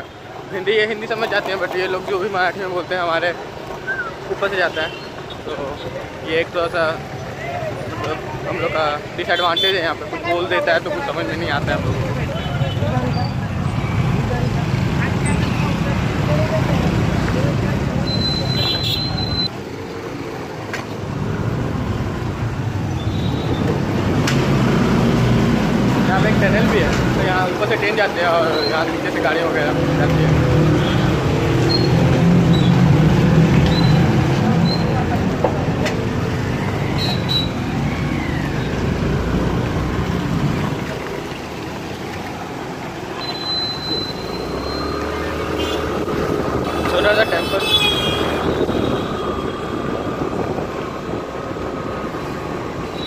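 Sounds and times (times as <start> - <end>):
traffic rumble in underpass: 0.0 - 53.0
motorbikes and scooters passing: 9.9 - 53.0.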